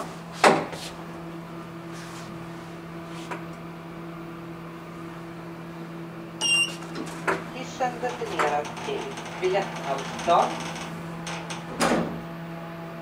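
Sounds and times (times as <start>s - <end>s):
elevator machinery humming: 0.0s - 13.0s.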